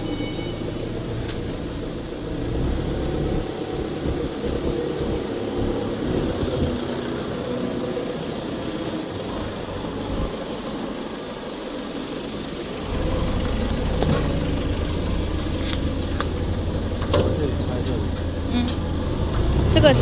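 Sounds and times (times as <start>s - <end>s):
factory machinery noise: 0.0s - 20.0s.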